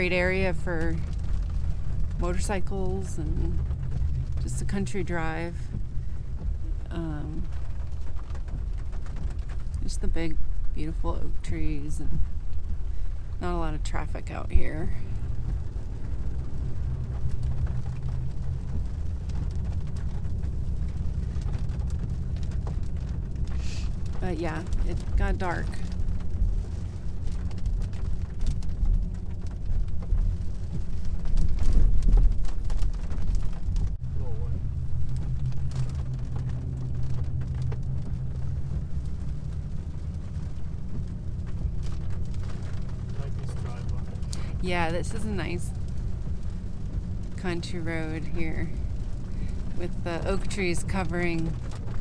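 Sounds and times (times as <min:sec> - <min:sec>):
car engine and road rumble: 0:00.0 - 0:52.0
rain tapping on car: 0:00.0 - 0:52.0.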